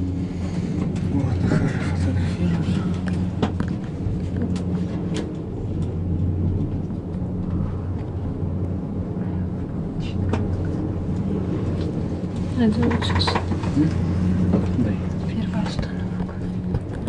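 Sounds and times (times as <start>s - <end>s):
gondola cabin drone: 0.0s - 17.0s.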